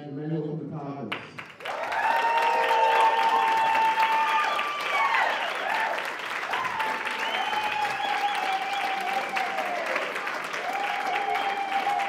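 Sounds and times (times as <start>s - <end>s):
crowd applauding: 1.1s - 12.0s.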